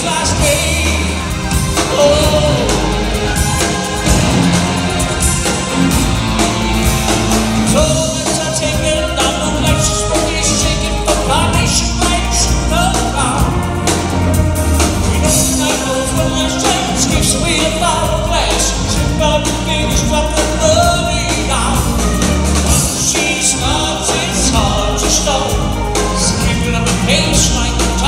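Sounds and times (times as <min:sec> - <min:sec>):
man singing: 0:00.0 - 0:03.6, 0:07.6 - 0:13.8, 0:15.0 - 0:28.0
live rock band playing: 0:00.0 - 0:28.0.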